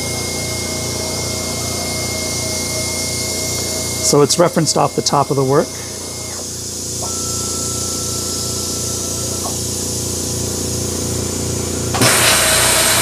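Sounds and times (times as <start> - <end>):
air compressor: 0.0 - 13.0
cnc router machine drone: 0.0 - 13.0.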